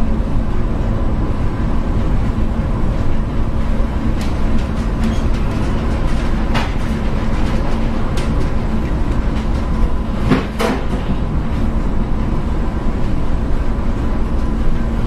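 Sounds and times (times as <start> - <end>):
ship machinery rumble and hum: 0.0 - 15.0.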